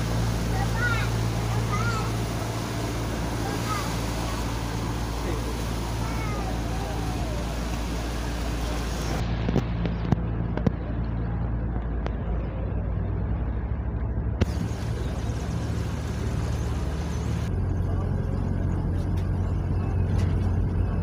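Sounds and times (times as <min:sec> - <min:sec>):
boat diesel engine droning: 0:00.0 - 0:21.0
wind and water noise: 0:00.0 - 0:21.0.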